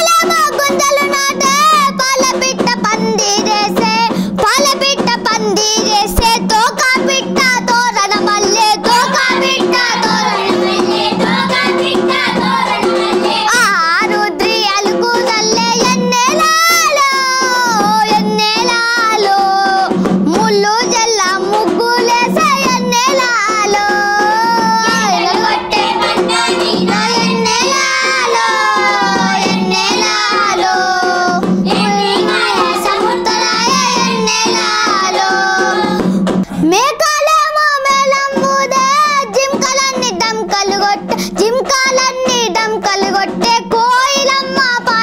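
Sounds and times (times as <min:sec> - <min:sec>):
boy singing folk song: 0:00.0 - 0:45.0.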